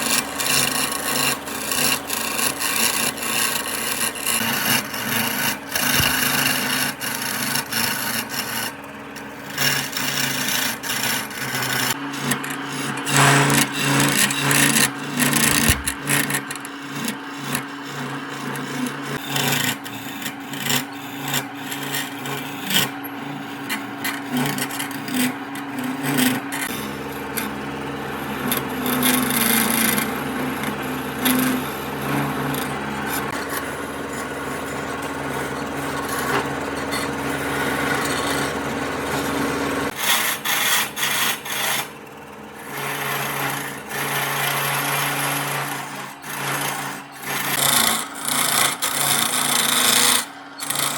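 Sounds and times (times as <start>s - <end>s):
rasping scrape against wood: 0.0s - 50.9s
steady motor hum: 0.0s - 50.9s.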